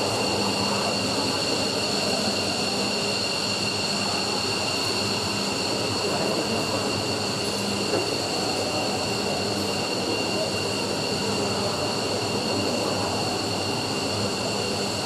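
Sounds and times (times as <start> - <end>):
high-pitched turbine whine: 0.0 - 15.0.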